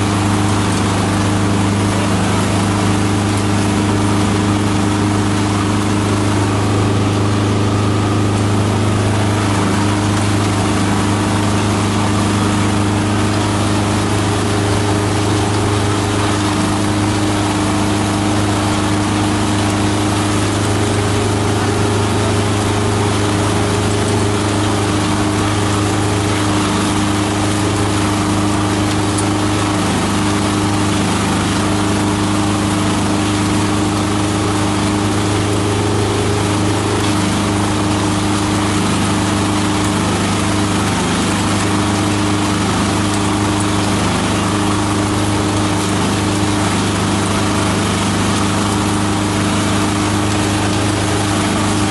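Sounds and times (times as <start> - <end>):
shredder machine running: 0.0 - 51.9.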